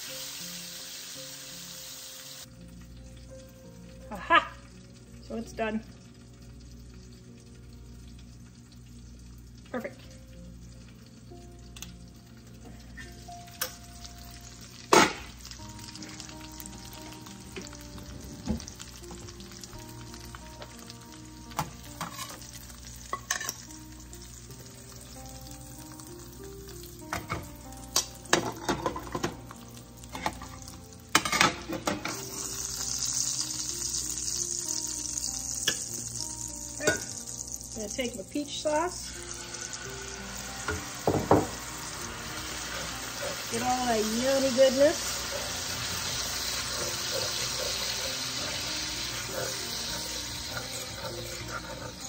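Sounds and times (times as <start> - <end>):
meat sizzling in a skillet: 0.0 - 52.0.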